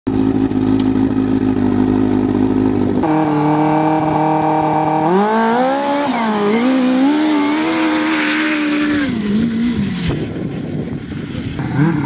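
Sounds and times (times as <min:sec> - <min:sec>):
snowmobile engine idling and revving: 0:00.1 - 0:12.0.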